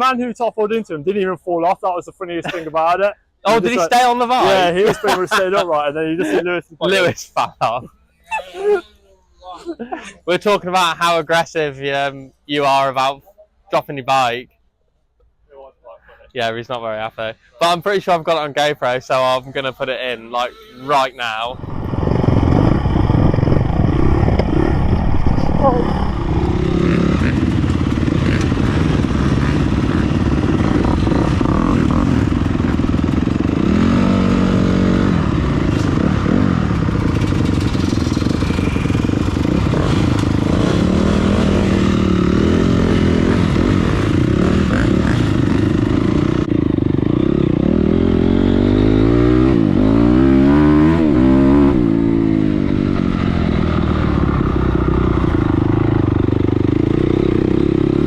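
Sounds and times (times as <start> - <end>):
dirt bike engines revving: 2.2 - 8.8, 16.8 - 58.0.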